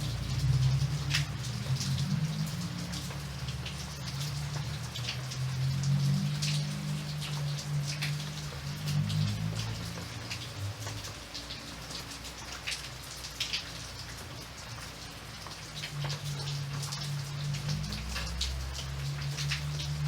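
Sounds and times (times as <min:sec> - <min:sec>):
raindrops pattering: 0:00.0 - 0:20.0.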